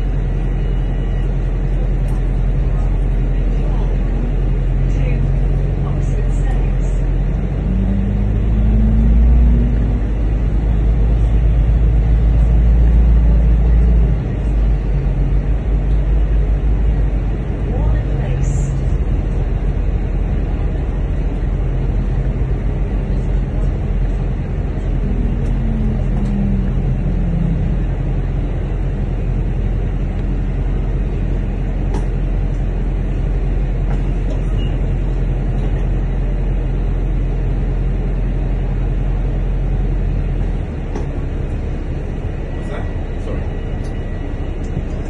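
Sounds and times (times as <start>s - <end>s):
bus engine drone: 0.0s - 45.0s
road noise: 0.0s - 45.0s.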